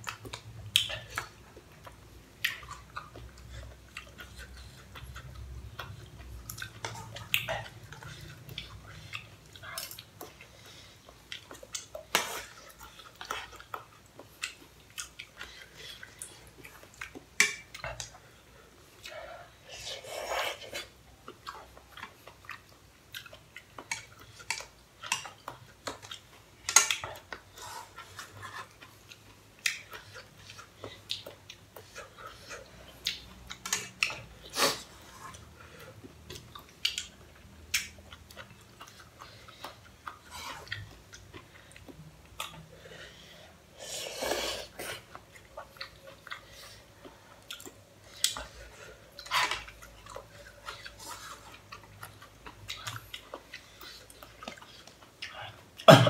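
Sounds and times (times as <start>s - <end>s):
people chewing and slurping noodles: 0.0s - 56.0s.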